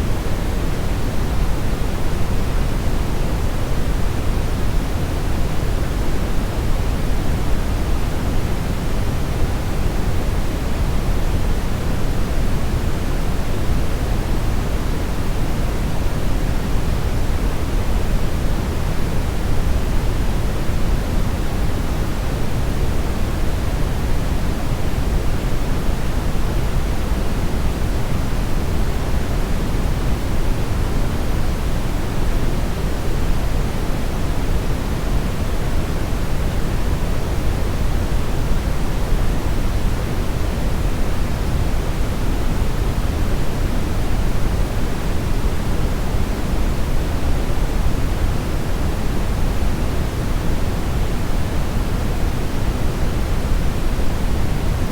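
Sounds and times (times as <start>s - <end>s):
deep brown noise hiss: 0.0s - 54.9s.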